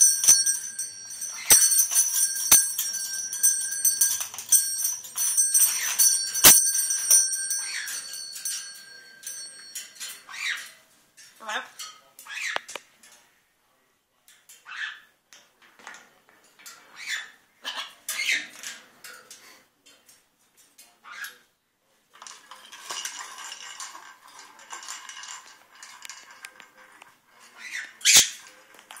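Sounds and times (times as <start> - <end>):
clinks and rattles in a cage: 0.0 - 13.3, 14.3 - 21.5, 22.1 - 29.0.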